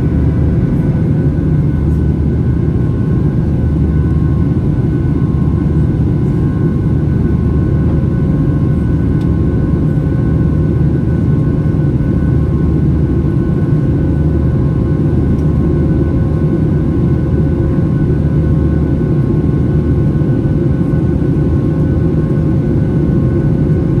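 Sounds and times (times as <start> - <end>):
airplane cabin engine rumble: 0.0 - 24.0
constant hums: 0.0 - 24.0.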